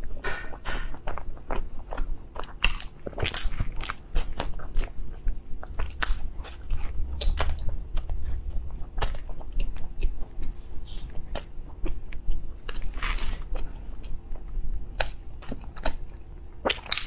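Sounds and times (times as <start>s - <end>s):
chewing and biting: 0.0s - 17.0s.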